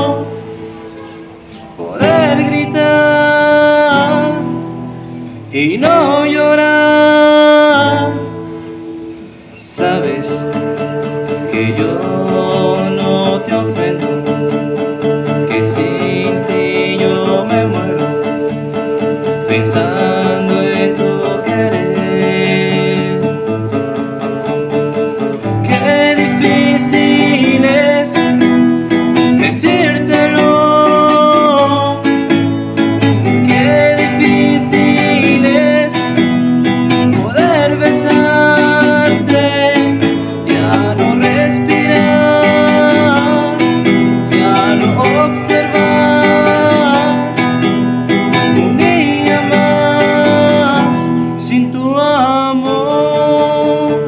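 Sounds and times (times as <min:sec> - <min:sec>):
man singing: 0:00.0 - 0:00.9, 0:01.6 - 0:08.7, 0:09.5 - 0:24.6, 0:25.3 - 0:54.0
acoustic guitar: 0:00.0 - 0:54.0.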